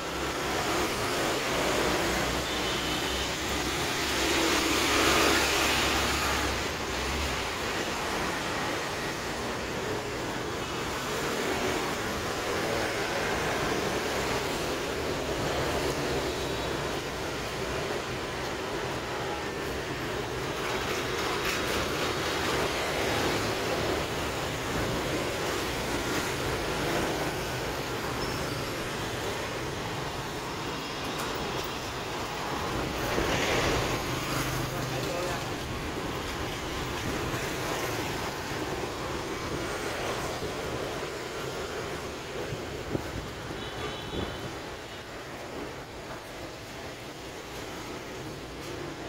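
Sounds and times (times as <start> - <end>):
street traffic rumble: 0.0 - 49.0.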